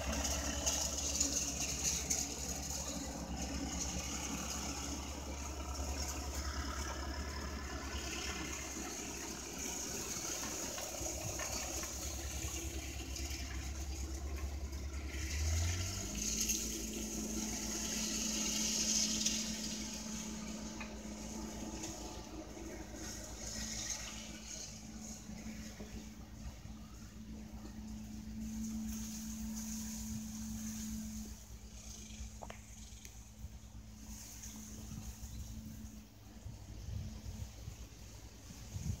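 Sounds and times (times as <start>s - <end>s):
engine humming: 0.0s - 39.0s.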